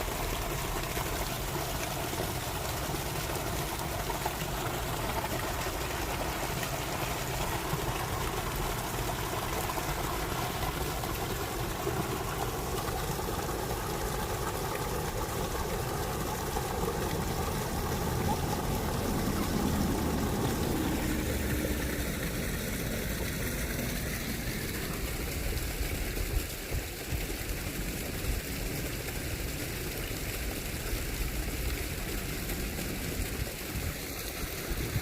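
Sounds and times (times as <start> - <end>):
low rumbling background noise: 0.0 - 35.0.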